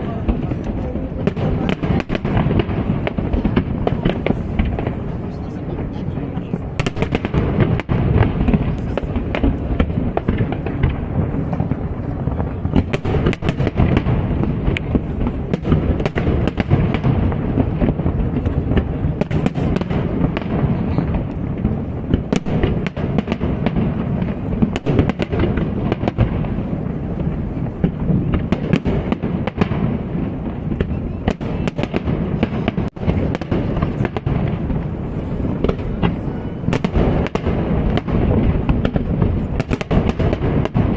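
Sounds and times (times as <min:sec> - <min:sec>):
fireworks booming and crackling: 0:00.0 - 0:40.9.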